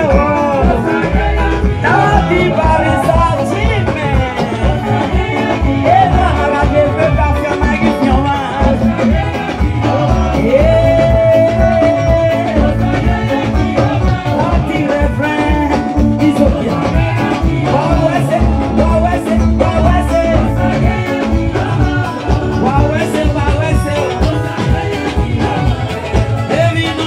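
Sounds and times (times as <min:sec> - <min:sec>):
lead singer through pa: 0:00.0 - 0:27.0
live band music: 0:00.0 - 0:27.0.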